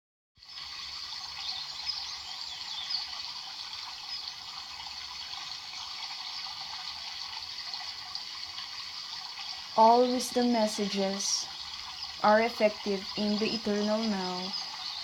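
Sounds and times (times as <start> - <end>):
running water gurgling: 0.4 - 15.0.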